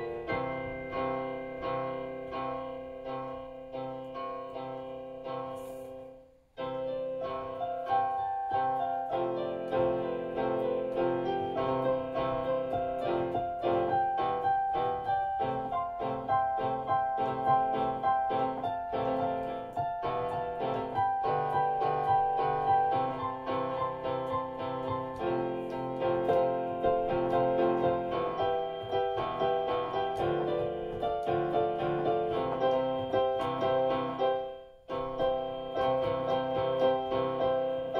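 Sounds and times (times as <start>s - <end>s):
piano melody over chords: 0.0s - 37.9s.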